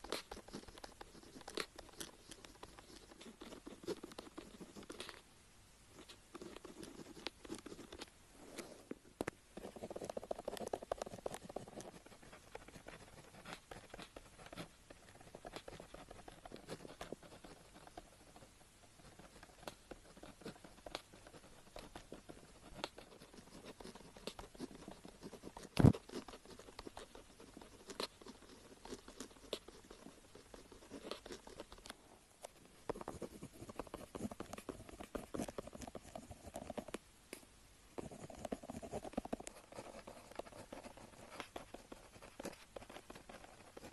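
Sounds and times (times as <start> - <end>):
pen scratching on paper: 0.0 - 5.2, 6.0 - 8.1, 9.6 - 31.8, 32.9 - 37.0, 38.0 - 43.9.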